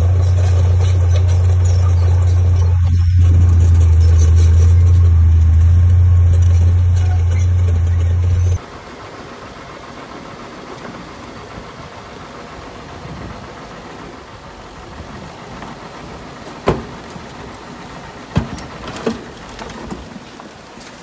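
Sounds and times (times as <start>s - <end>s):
heavy machinery engine running: 0.0s - 20.7s.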